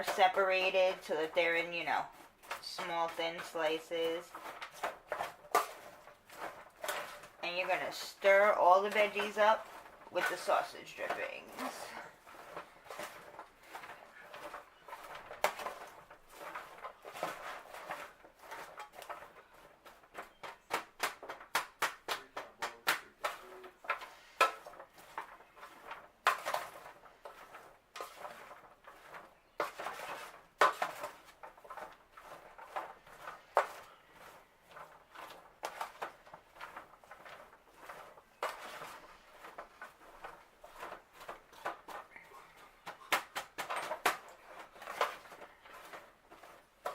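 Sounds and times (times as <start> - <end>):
utensil scraping and knocking a pan: 0.0 - 46.9.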